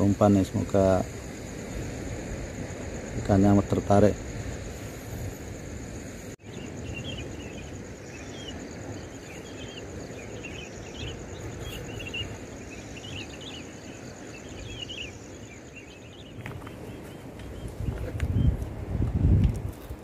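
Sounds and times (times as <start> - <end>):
cricket trill: 0.0 - 20.0
insects chirping: 0.0 - 20.0.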